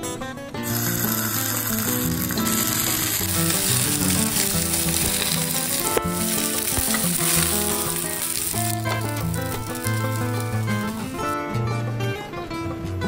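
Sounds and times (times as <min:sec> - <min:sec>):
background music: 0:00.0 - 0:13.0
dumplings sizzling in oil: 0:00.6 - 0:11.4.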